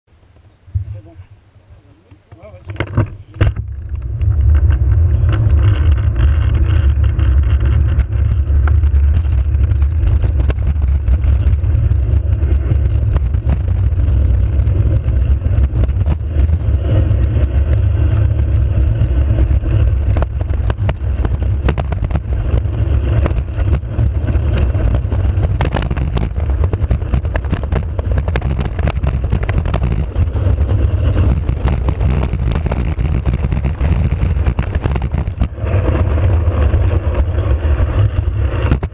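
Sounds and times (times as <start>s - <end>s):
wind on microphone: 0.6s - 38.9s
cart wheels rumbling on asphalt: 2.0s - 38.9s
cart rattling and knocking: 2.6s - 37.1s.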